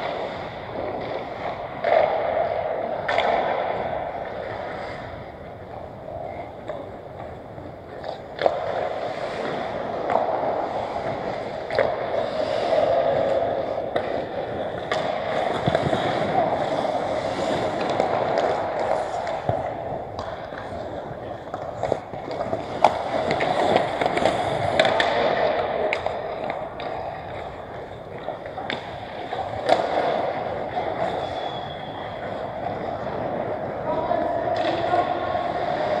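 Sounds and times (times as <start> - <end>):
hockey sticks and puck clacking: 0.0 - 36.0
skate blades scraping ice: 0.0 - 36.0.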